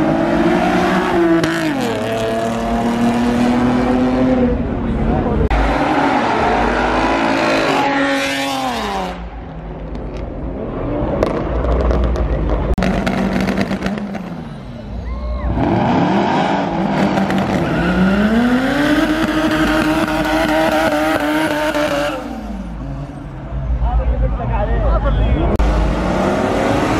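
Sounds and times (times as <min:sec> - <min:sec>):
car engine at full throttle: 0:00.0 - 0:24.7, 0:25.5 - 0:26.9.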